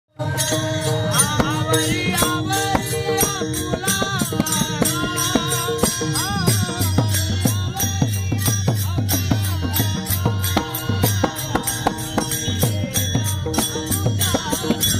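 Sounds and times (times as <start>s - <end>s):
men singing devotional song: 0.1s - 14.9s
hand cymbals clashing: 0.2s - 14.9s
hand drum: 0.2s - 14.9s.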